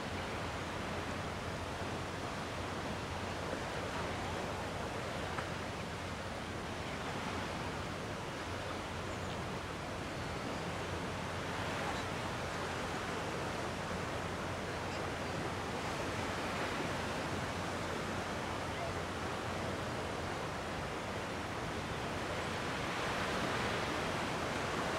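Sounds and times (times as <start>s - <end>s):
gentle sea waves washing ashore: 0.4s - 18.4s, 19.0s - 24.9s.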